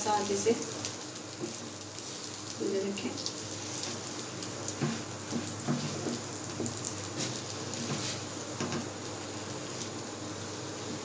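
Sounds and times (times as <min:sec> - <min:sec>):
bread sizzling in a pan: 0:00.0 - 0:11.0.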